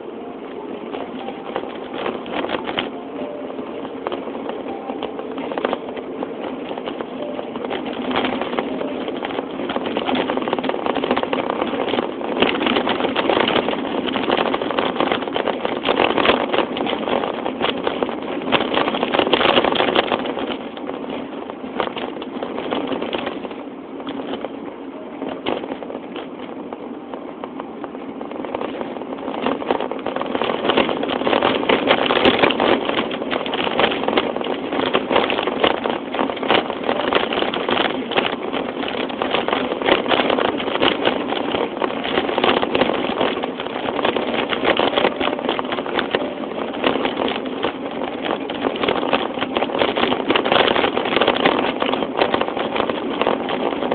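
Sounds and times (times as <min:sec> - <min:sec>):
engine running with rushing drone: 0:00.0 - 0:53.9.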